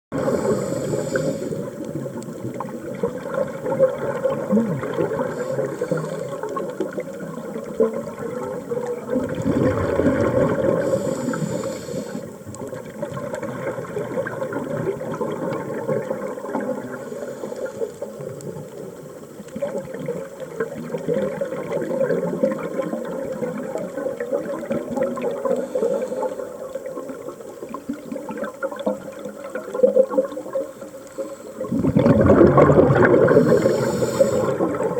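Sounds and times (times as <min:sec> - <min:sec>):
underwater bubbling and gurgling: 0:00.1 - 0:34.9.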